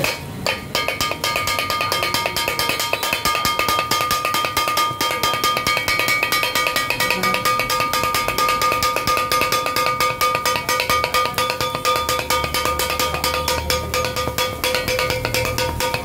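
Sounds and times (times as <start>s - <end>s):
griddle ringing: 0.0s - 16.0s
steel blades chopping on griddle: 0.0s - 16.0s.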